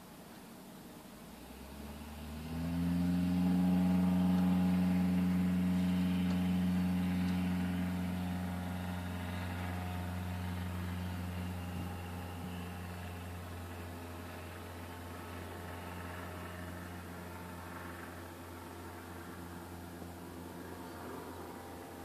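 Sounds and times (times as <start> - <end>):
aircraft engine starting and idling: 0.0 - 22.0.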